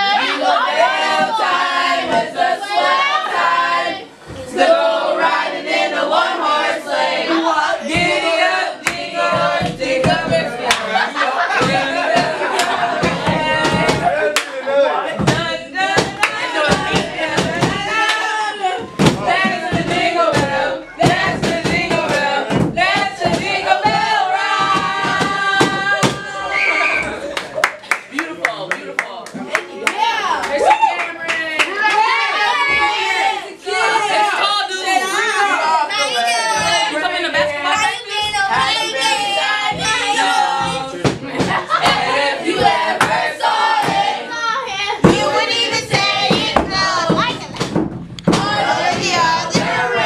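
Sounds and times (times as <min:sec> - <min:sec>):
children singing together: 0:00.0 - 0:27.2, 0:31.8 - 0:50.0.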